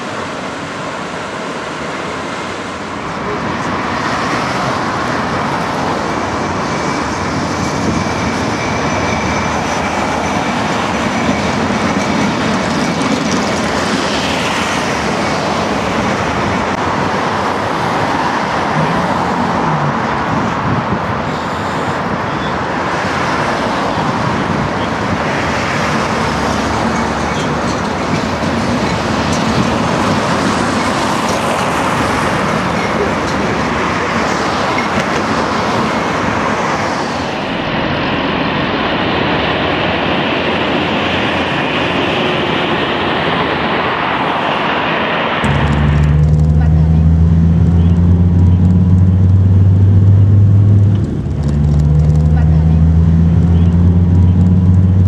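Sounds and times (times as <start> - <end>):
street traffic: 0.0 - 55.0
trams running on rails: 0.0 - 55.0.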